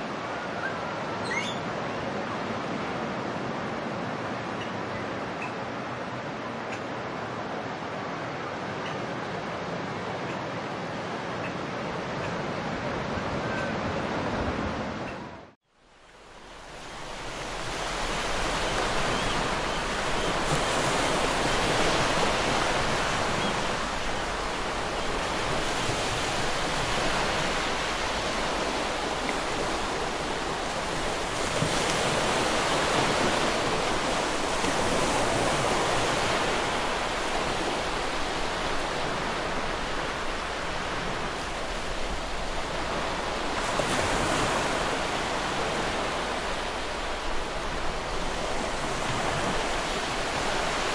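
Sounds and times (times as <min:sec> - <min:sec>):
waves washing on beach: 0:00.0 - 0:50.9.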